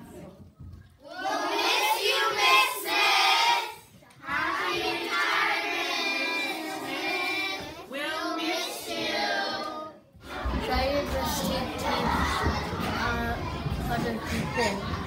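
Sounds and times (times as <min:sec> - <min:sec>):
children singing in unison: 0:01.0 - 0:15.0.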